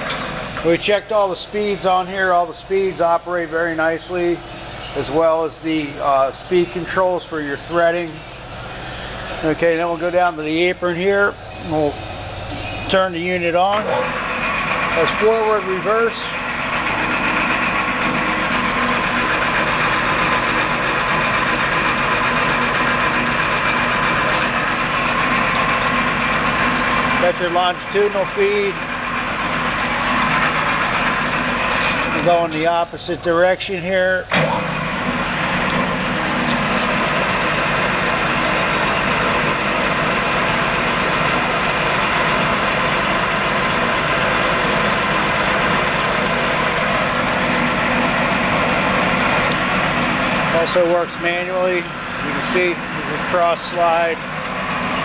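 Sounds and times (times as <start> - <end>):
bench lathe running: 0.0 - 55.0.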